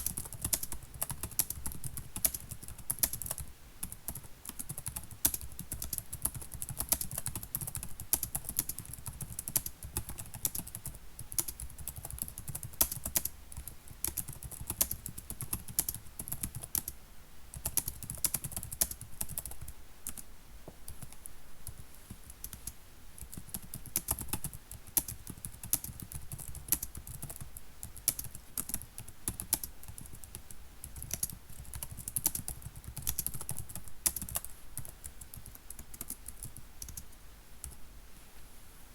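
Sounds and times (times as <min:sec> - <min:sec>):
computer keyboard typing: 0:00.0 - 0:17.0, 0:17.6 - 0:20.2, 0:20.9 - 0:37.8.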